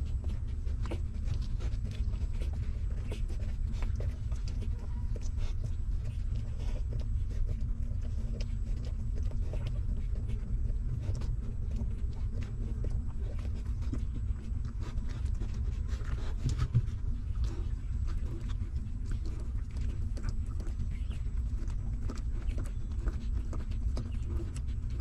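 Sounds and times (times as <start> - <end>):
puppies suckling wet clicks: 0.0 - 25.0
steady low rumble: 0.0 - 25.0.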